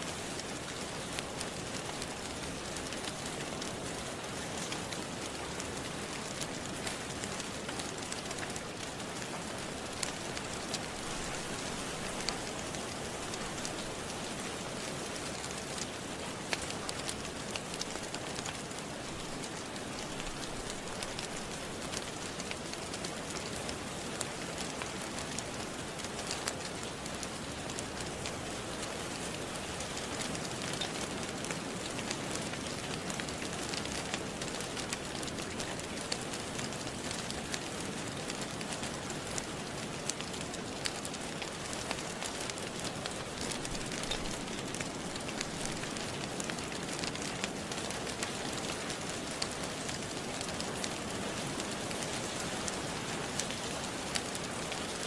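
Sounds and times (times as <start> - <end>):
rain falling: 0.0 - 55.0
wood fire crackling: 0.0 - 55.0.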